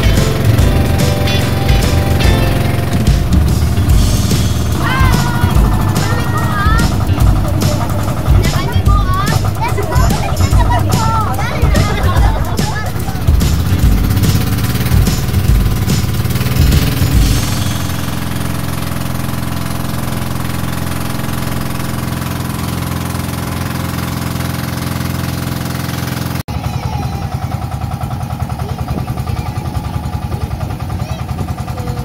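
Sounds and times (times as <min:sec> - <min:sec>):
motor boat engine throbbing: 0:00.0 - 0:32.0.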